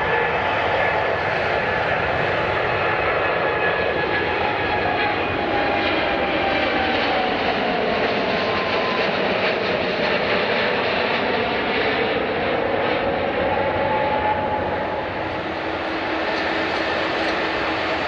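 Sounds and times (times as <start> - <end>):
airliner engines with falling whine: 0.0 - 18.0.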